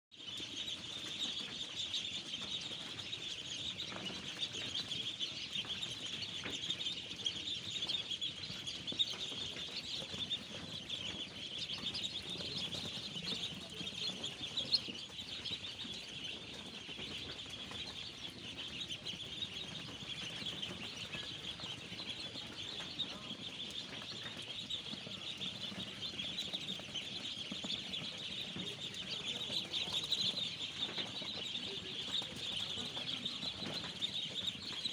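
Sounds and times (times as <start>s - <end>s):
ducklings peeping: 0.2s - 34.9s.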